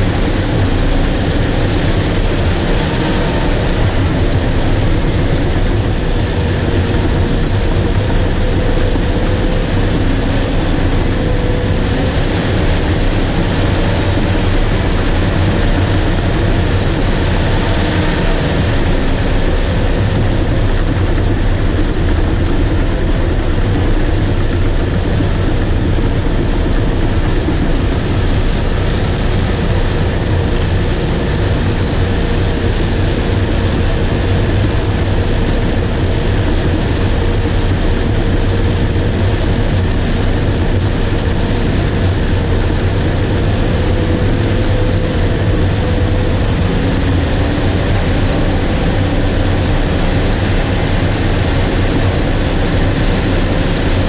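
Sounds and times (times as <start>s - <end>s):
bulldozer engine running: 0.0s - 54.0s.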